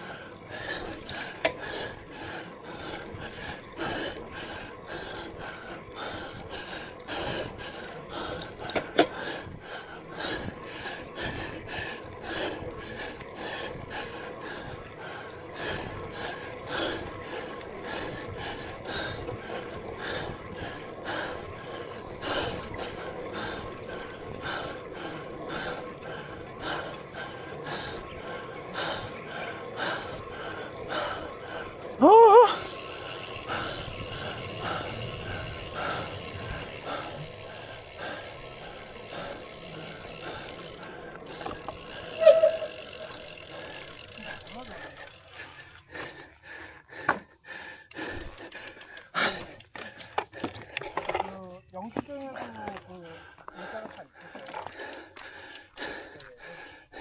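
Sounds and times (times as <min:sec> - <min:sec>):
person breathing hard: 0:00.0 - 0:51.0, 0:53.0 - 0:57.0.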